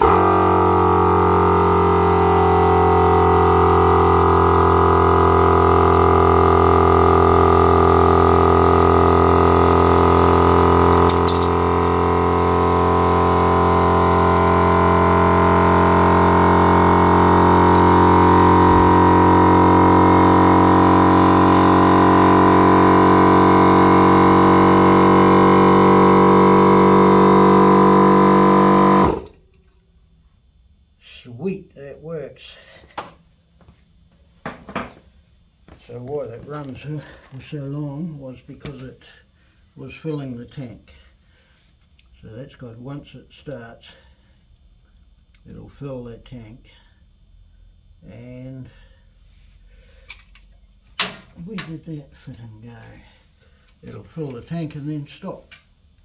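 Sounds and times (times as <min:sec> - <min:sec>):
air compressor humming: 0:00.0 - 0:29.9, 0:32.4 - 0:42.6, 0:43.8 - 0:56.0.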